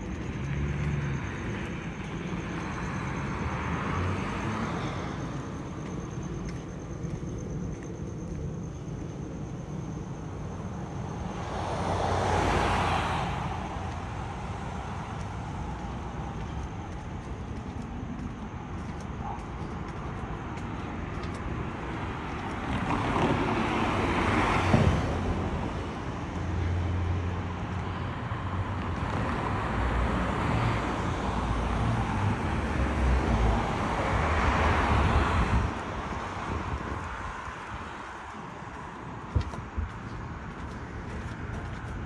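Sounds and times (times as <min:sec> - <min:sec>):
cars driving past: 0:00.0 - 0:42.0.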